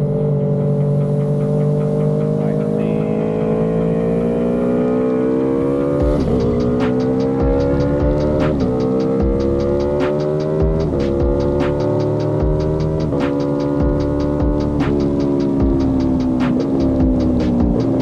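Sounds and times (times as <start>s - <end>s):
music beat: 0.0s - 4.7s, 5.6s - 18.0s
motorcycle engine accelerating: 0.0s - 18.0s.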